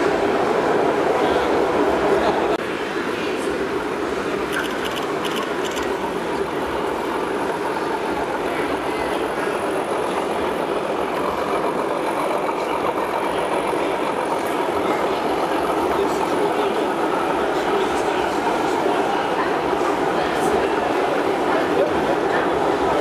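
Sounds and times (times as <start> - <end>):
exhibition hall background din: 0.0 - 23.0
model locomotive engine hum: 0.0 - 23.0.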